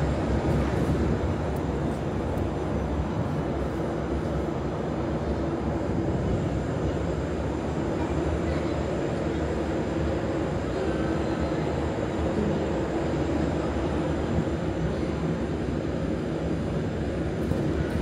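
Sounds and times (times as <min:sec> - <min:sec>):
train humming and rumbling: 0:00.0 - 0:18.0.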